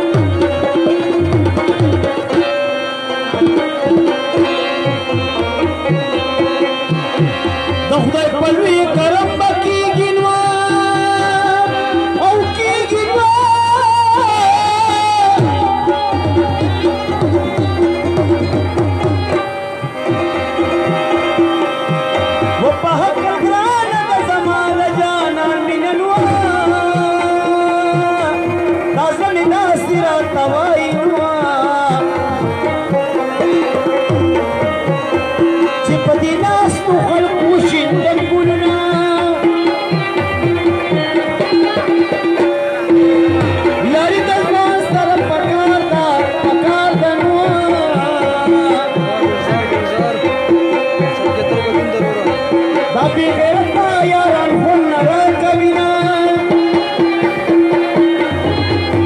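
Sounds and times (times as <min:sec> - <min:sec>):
folk band playing: 0:00.0 - 0:59.0
hand drums beating: 0:00.0 - 0:59.0.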